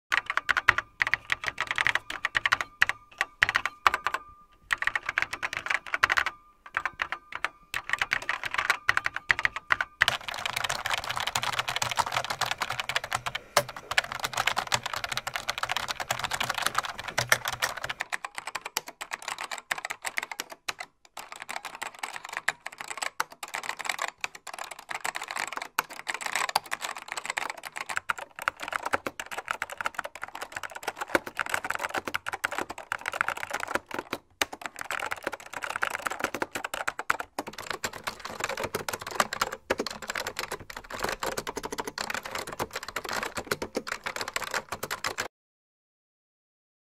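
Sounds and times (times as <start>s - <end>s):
typing on a keyboard: 0.1s - 45.3s.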